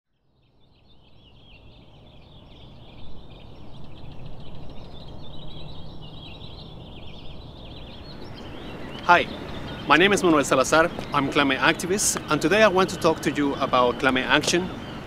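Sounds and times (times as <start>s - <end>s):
birds chirping and twittering: 0.1s - 15.0s
low city rumble: 0.3s - 15.0s.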